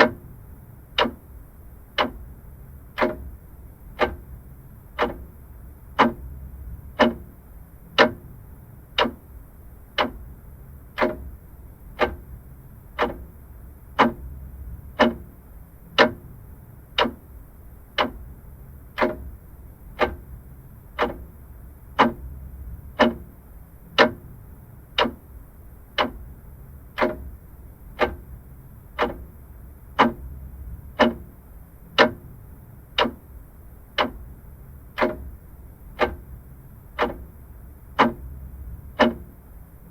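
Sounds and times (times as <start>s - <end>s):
clock ticking: 0.0s - 39.6s
faint low hum: 0.0s - 39.9s.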